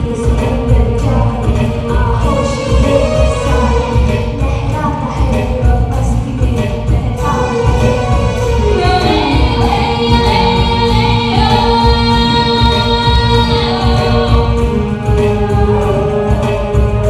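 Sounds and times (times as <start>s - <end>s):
band with heavy low beat: 0.0s - 17.0s
person singing: 0.0s - 17.0s.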